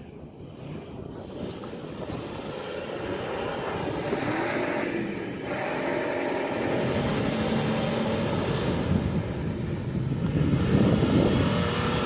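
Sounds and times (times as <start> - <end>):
vehicle engine running: 1.2 - 12.0.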